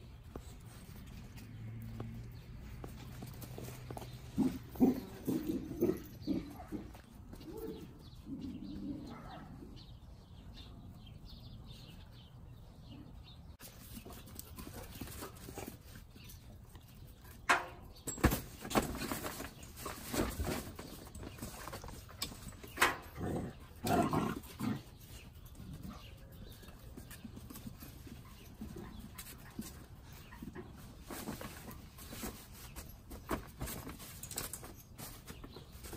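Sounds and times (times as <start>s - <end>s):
puppies playing and scuffling: 0.0s - 35.9s.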